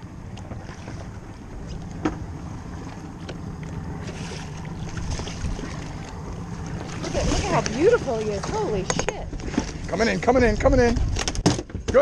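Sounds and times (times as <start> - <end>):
low rumble: 0.0 - 11.4
wind buffeting microphone: 0.0 - 11.9
water sloshing against boat: 0.0 - 12.0.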